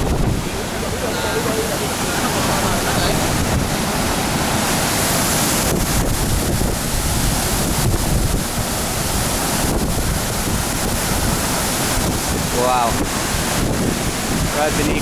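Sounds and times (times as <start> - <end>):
waterfall crashing down: 0.0 - 15.0
wind buffeting microphone: 0.0 - 15.0.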